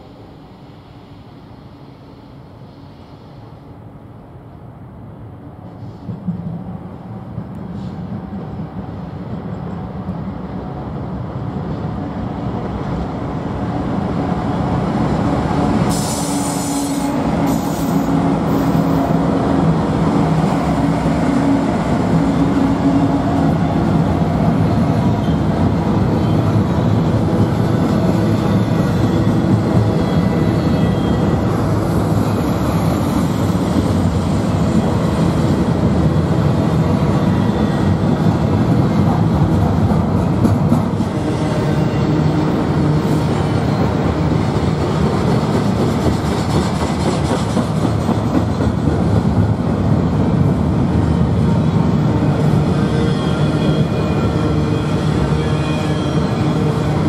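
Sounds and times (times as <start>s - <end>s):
diesel locomotive engines: 0.0s - 57.0s
container cars rumbling on rails: 5.8s - 57.0s.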